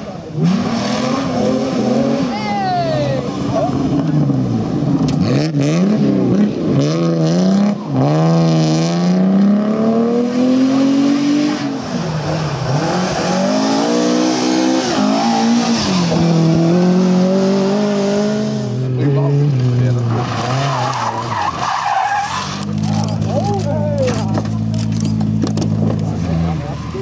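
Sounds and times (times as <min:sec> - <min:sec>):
rally car engines at high revs: 0:00.0 - 0:27.0.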